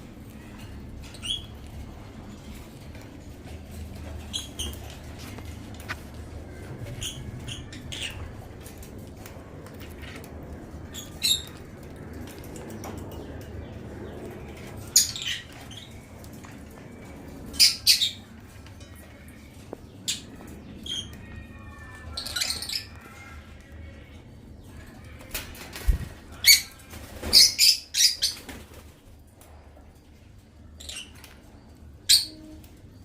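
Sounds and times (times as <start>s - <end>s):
low background noise: 0.0s - 33.0s.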